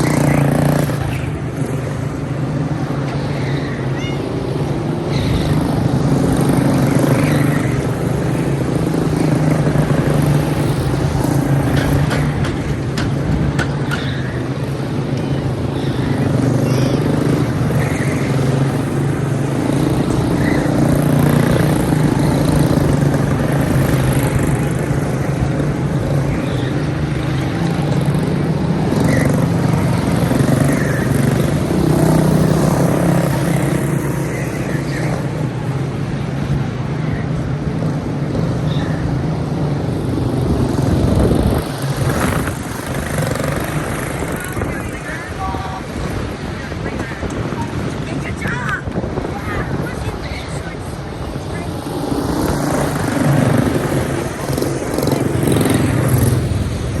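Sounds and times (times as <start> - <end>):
go-kart engines racing past: 0.0 - 57.0.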